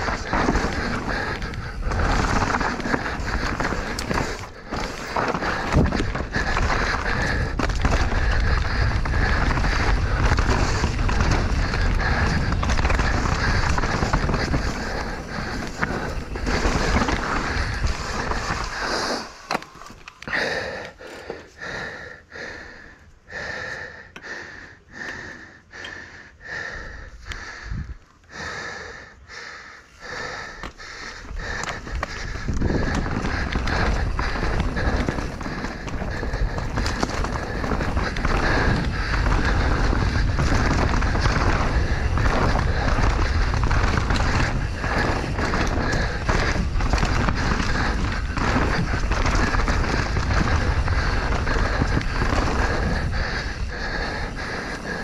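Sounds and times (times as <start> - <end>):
bike tyre and wind rush: 0.0 - 55.0
person breathing hard: 0.0 - 55.0.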